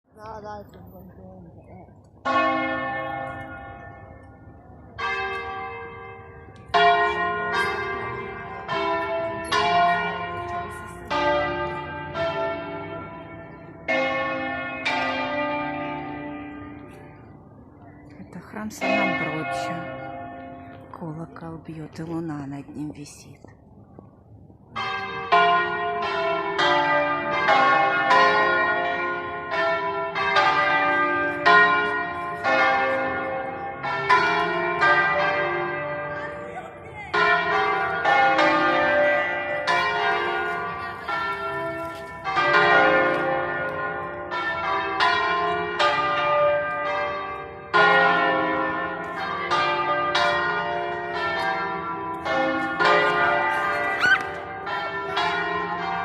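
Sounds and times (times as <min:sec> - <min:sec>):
church bells pealing: 0:02.0 - 0:23.2, 0:24.7 - 0:56.0.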